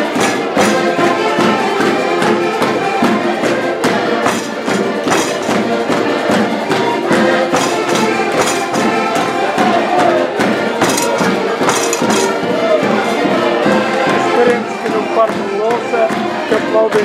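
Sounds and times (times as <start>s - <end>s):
folk band playing accordions: 0.0s - 17.0s
people clapping along: 0.0s - 17.0s.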